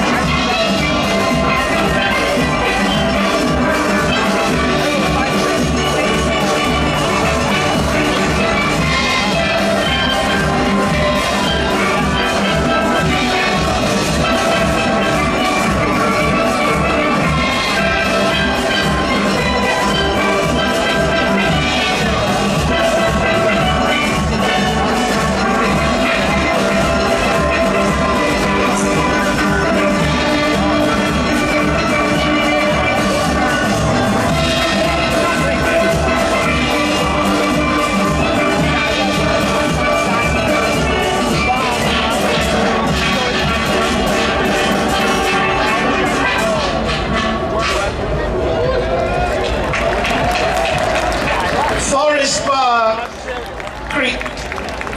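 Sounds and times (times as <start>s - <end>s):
steady drum beat: 0.0s - 48.2s, 49.2s - 54.9s
steelpans playing: 0.0s - 53.1s.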